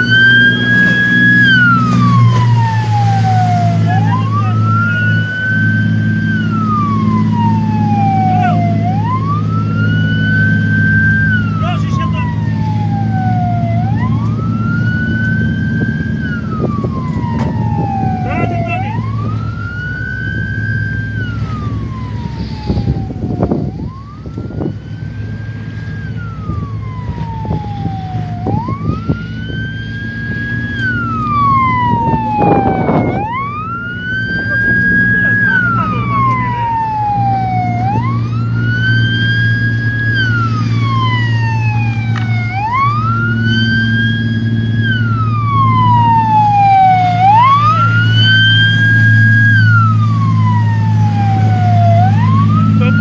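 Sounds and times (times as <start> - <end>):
boat engine drone: 0.0 - 53.0
boat siren wailing: 0.0 - 53.0.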